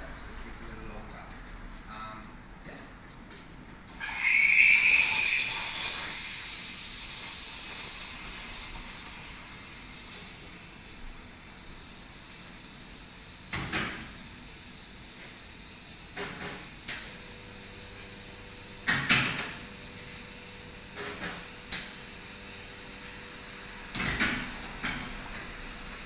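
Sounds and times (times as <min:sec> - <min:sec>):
steady hiss: 0:04.2 - 0:19.3, 0:20.0 - 0:26.0.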